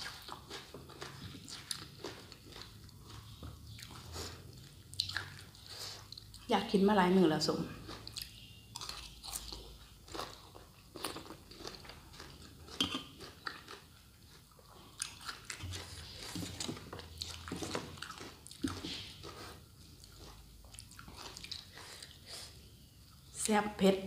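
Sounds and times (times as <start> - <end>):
person chewing crisp salad: 0.0 - 6.5, 7.7 - 23.3.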